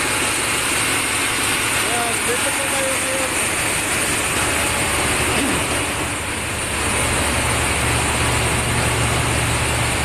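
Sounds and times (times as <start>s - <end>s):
generator engine drone: 0.0s - 10.0s.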